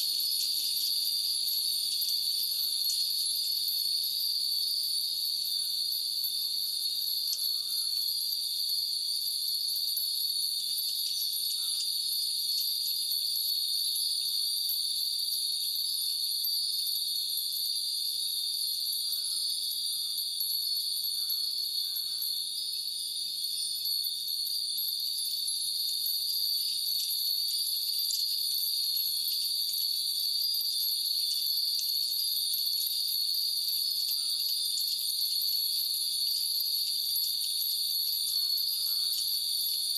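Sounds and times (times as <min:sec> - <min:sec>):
high insect drone: 0:00.0 - 0:39.9
wind chimes tinkling: 0:00.0 - 0:39.9.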